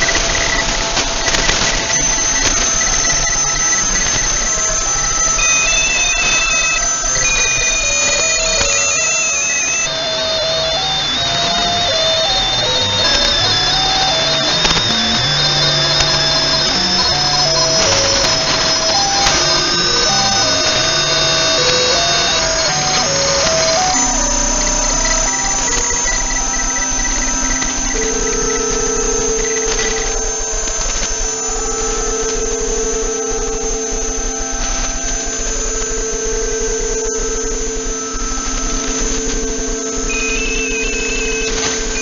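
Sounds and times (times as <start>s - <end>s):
droning data signal tones: 0.0s - 42.0s
radio static hiss: 0.0s - 42.0s
tone hopping between pitches: 2.0s - 35.0s, 38.6s - 42.0s.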